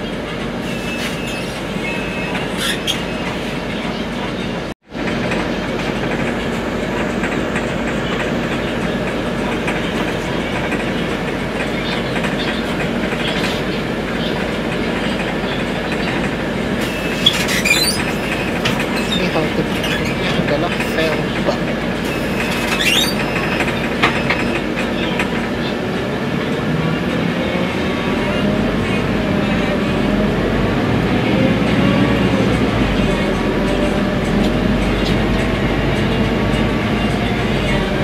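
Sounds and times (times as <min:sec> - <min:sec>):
bus engine and road rumble: 0:00.0 - 0:38.0.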